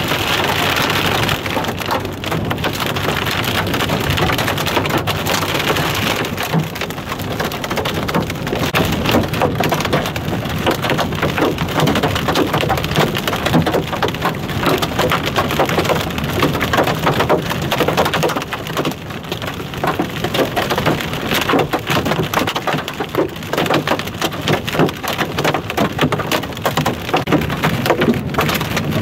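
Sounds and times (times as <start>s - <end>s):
hail and rain pelting down: 0.0s - 29.0s.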